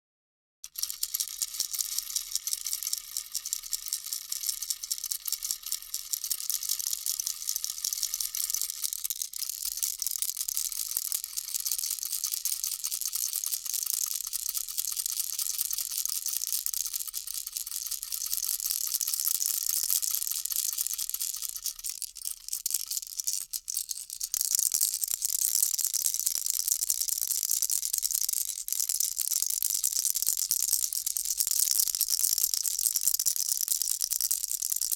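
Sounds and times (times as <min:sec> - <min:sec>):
baby rattle shaking: 0:00.6 - 0:34.9.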